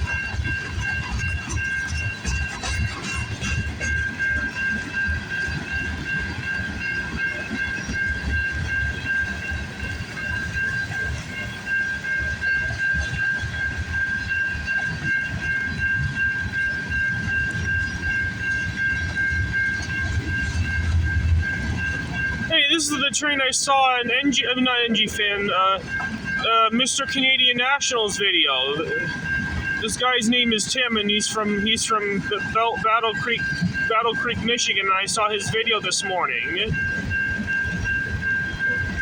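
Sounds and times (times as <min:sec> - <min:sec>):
freight train cars rumbling past: 0:00.0 - 0:39.0
wheels clattering over rail joints: 0:00.0 - 0:39.0.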